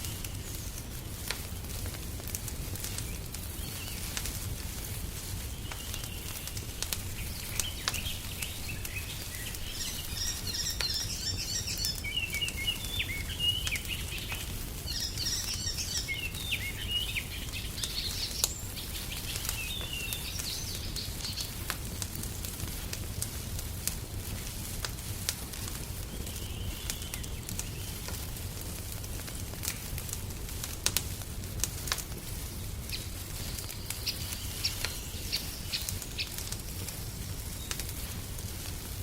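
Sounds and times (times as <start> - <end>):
songbirds chirping: 0.0 - 22.3, 25.7 - 30.1, 32.2 - 39.0
wood fire crackling and popping: 0.0 - 39.0.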